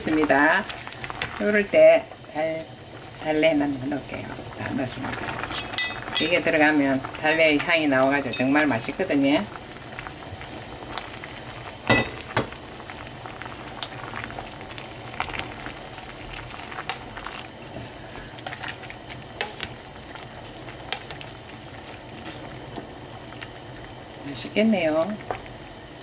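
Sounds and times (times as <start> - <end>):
stew bubbling with small pops: 0.0 - 1.4, 4.1 - 24.2.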